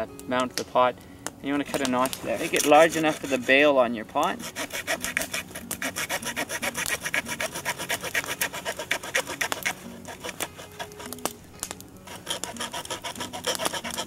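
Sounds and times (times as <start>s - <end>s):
hand saw rasping wood: 1.6s - 11.3s, 12.0s - 14.0s.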